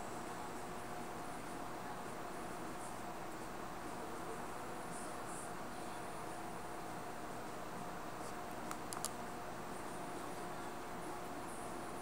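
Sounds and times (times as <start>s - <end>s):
faint constant hum: 0.0s - 12.0s.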